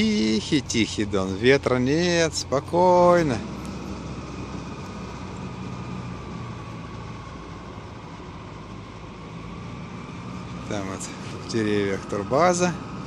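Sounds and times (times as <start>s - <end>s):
tug boat engine droning: 0.0s - 13.0s.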